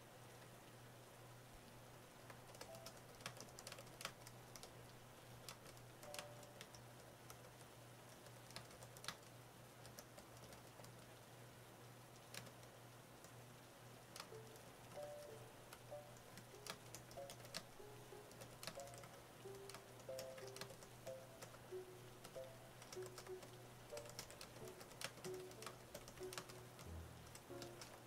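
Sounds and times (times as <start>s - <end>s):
faint keyboard keystrokes: 2.3s - 4.8s, 5.4s - 11.1s, 12.2s - 13.4s, 14.2s - 17.7s, 18.3s - 28.0s.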